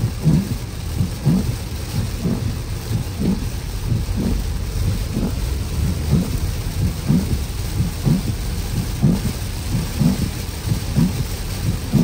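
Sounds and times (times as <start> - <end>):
car driving rumble: 0.0 - 12.0
heavy rain on car: 0.0 - 12.0
windshield wipers swishing: 0.0 - 12.0.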